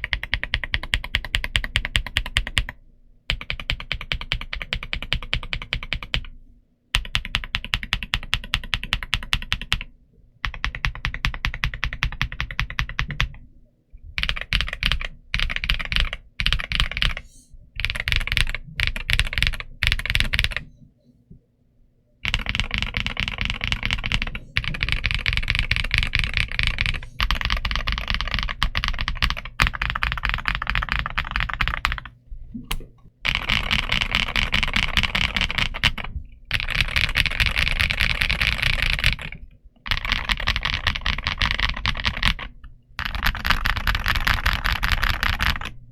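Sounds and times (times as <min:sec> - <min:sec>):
mechanical keyboard typing: 0:00.0 - 0:06.3, 0:07.0 - 0:13.4, 0:14.2 - 0:17.2, 0:17.8 - 0:20.7, 0:22.2 - 0:32.1, 0:32.7 - 0:45.8.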